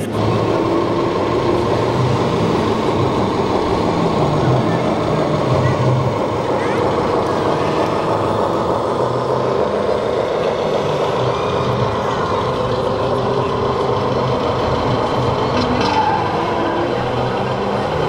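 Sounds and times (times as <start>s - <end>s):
din of a busy hall: 0.0s - 18.0s
simulated diesel truck engine: 0.0s - 18.0s.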